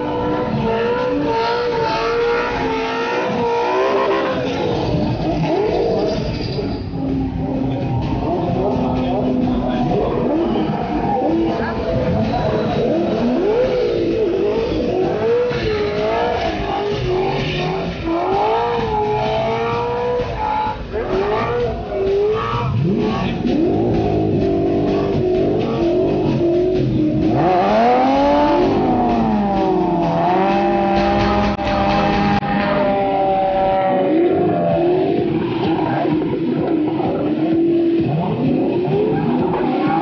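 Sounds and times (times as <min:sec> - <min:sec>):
car engines revving: 0:00.0 - 0:40.0
tyres screeching: 0:00.2 - 0:36.2.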